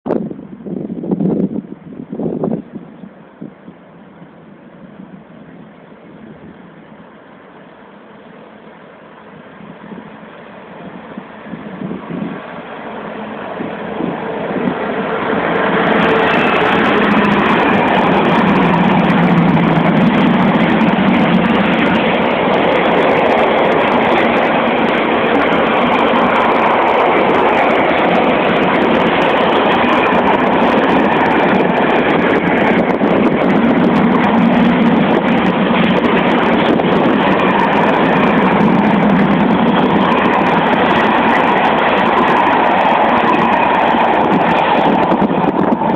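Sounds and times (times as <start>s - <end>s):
train wheels rumbling on rails: 0.1s - 45.9s.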